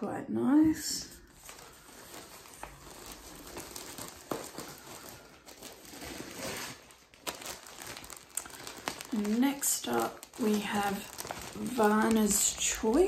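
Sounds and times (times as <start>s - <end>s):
plastic packaging crinkling: 1.2s - 13.0s
cardboard rustling: 1.3s - 13.0s.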